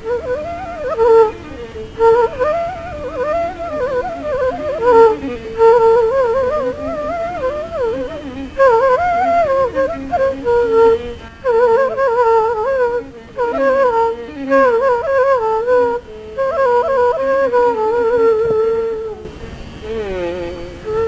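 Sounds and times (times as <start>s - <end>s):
bamboo flute playing: 0.0s - 21.0s.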